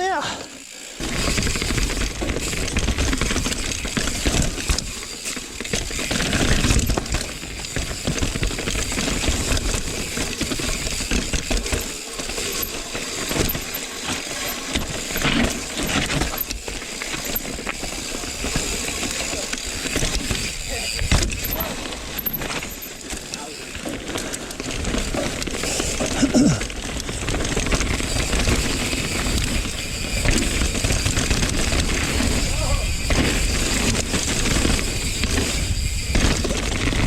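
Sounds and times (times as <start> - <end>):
bike frame and chain clattering: 0.0 - 37.0
tyres rumbling over dirt and rock: 1.0 - 37.0.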